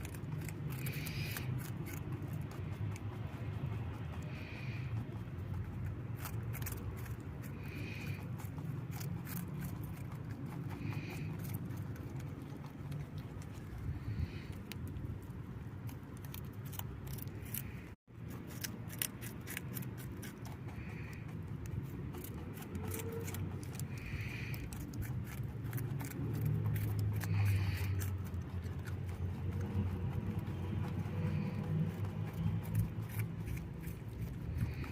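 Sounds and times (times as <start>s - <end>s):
rabbit chewing carrot: 0.0s - 34.9s.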